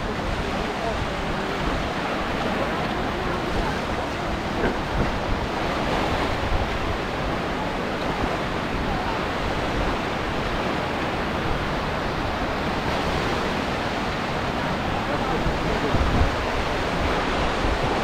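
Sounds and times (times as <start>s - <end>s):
sea waves breaking: 0.0s - 18.0s
wind: 0.0s - 18.0s.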